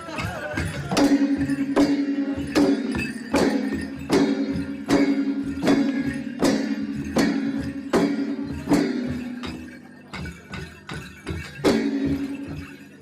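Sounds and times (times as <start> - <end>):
barrel drum beaten in rhythm: 0.0 - 13.0.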